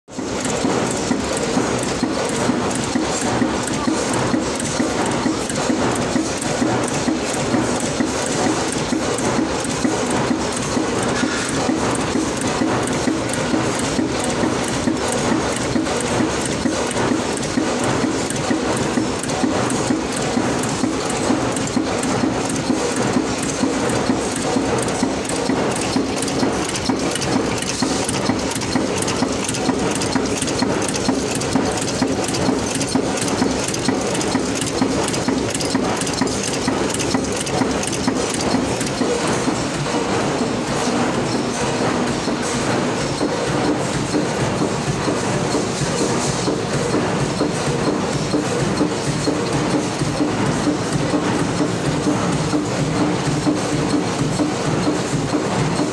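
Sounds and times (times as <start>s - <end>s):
nut-making machine clattering: 0.1s - 55.9s.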